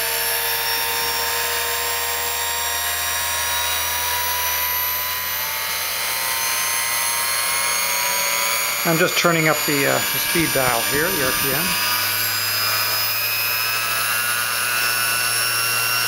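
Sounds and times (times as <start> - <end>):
bench grinder motor whining: 0.0 - 16.0.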